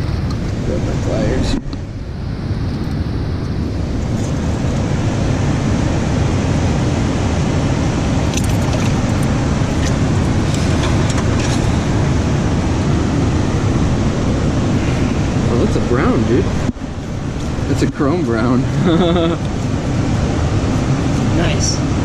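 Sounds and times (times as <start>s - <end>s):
river current rushing: 0.0s - 22.0s
wind buffeting microphone: 0.0s - 22.0s.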